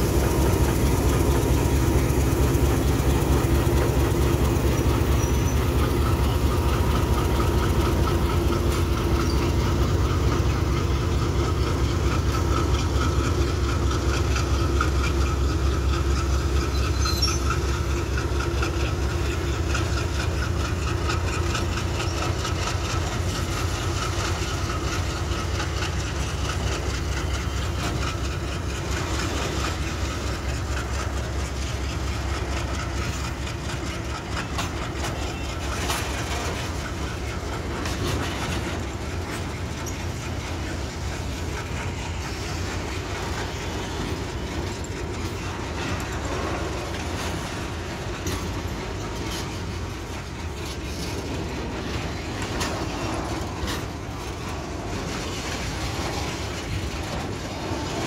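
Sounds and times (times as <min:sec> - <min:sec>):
locomotive engine rumble: 0:00.0 - 0:58.0
tank wagons rolling by: 0:00.0 - 0:58.0.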